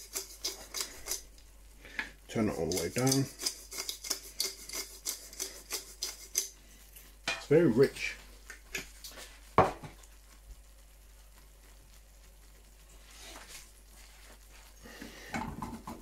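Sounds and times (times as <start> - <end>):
sauce bubbling and sizzling: 0.0 - 7.3, 8.0 - 16.0.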